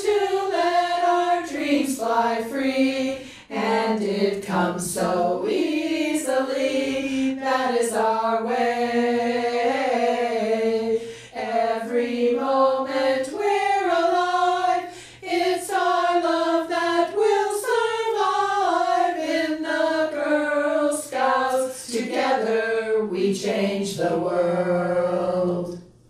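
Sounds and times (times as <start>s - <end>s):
women singing together: 0.0s - 25.9s.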